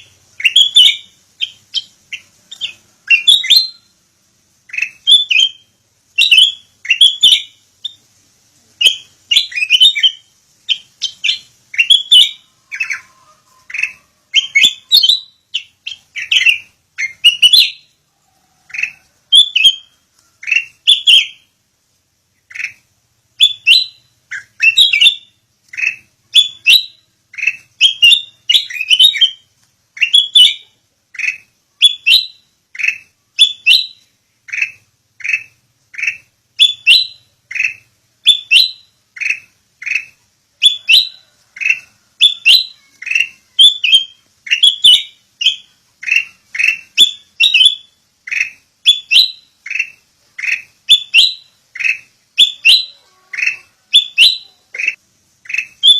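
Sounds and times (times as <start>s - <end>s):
bird chirping: 0.0s - 55.9s.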